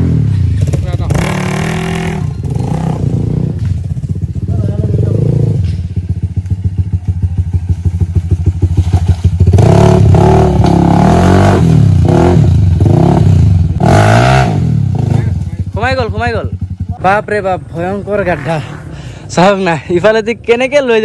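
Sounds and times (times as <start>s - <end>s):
motorcycle engine revving: 0.0s - 19.6s.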